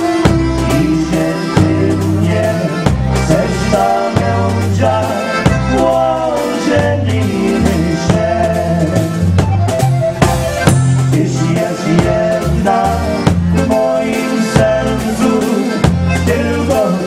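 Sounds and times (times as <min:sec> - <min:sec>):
dance band playing a waltz: 0:00.0 - 0:17.0
drum kit: 0:00.0 - 0:17.0
man singing into a microphone: 0:00.3 - 0:09.3, 0:10.9 - 0:17.0.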